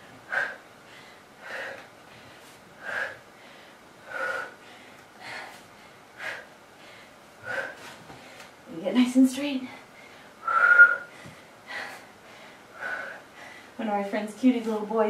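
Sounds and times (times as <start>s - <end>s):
woman breathing hard: 0.0s - 8.6s, 9.7s - 13.8s.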